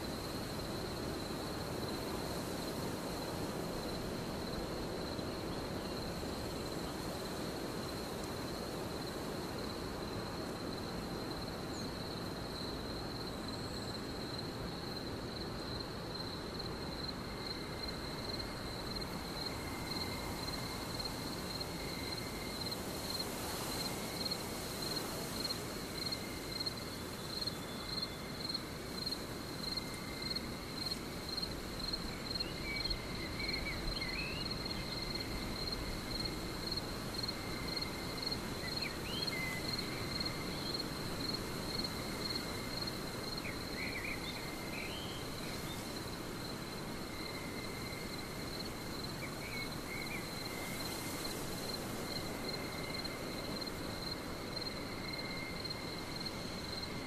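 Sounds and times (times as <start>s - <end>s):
background hiss: 0.0s - 57.0s
crickets trilling: 0.0s - 57.0s.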